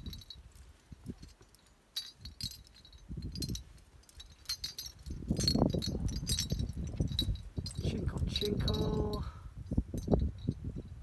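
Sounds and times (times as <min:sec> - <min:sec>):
metal climbing gear clinking: 0:00.0 - 0:11.0.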